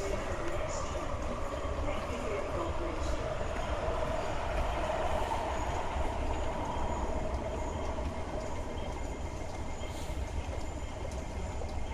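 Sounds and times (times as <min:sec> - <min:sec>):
electric train rumbling: 0:00.0 - 0:11.9.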